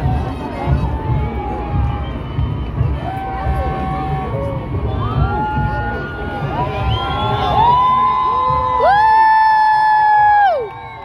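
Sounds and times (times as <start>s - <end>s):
crowd cheering and yelling: 0.0s - 11.0s.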